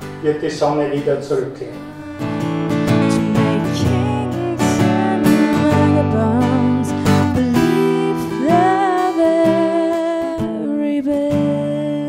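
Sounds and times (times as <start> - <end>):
strummed acoustic guitar music: 0.0 - 12.0.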